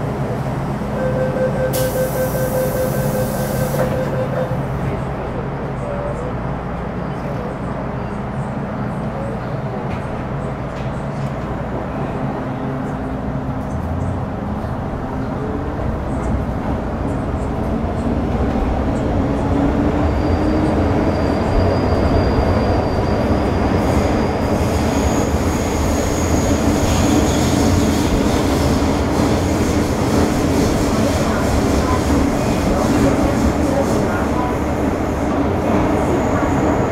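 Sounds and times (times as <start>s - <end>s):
train running noise: 0.0s - 36.9s.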